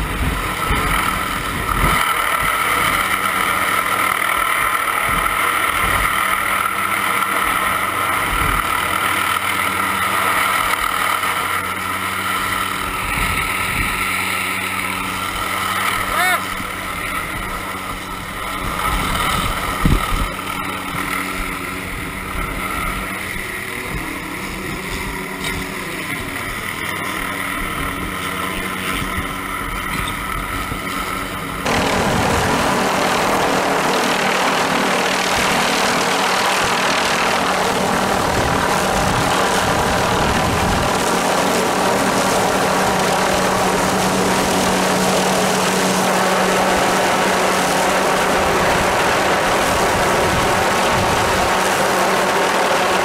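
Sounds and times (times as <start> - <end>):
helicopter rotor and turbine drone: 0.0 - 53.0.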